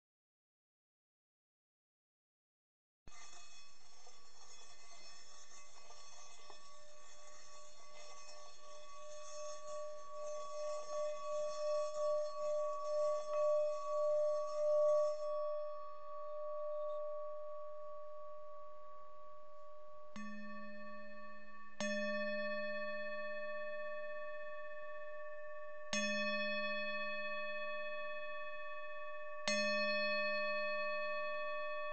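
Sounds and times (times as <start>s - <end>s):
singing bowls ringing: 3.2s - 31.9s.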